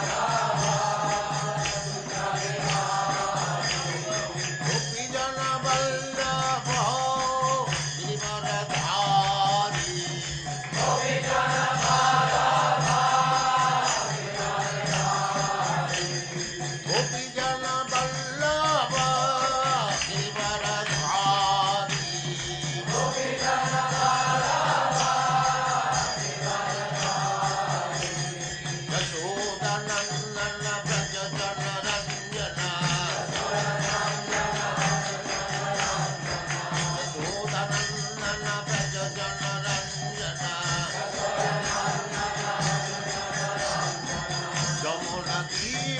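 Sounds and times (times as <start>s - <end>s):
light percussion: 0.0s - 45.9s.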